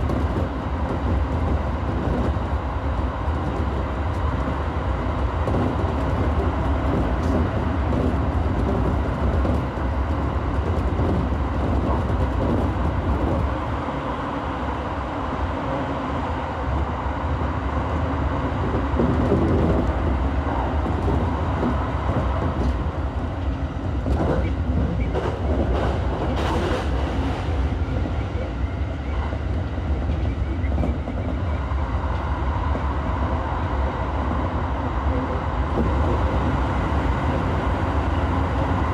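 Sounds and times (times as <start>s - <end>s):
train rumbling in tunnel: 0.0s - 38.9s.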